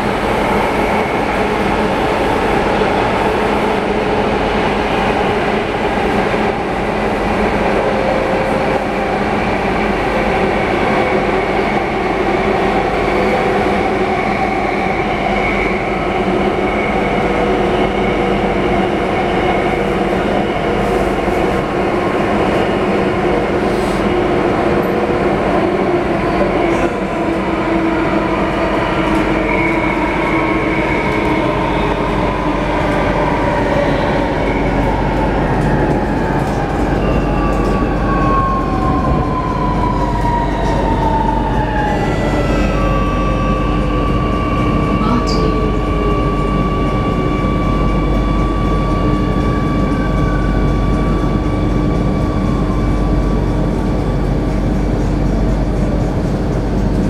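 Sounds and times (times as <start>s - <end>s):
train wheels rumbling: 0.0s - 57.0s.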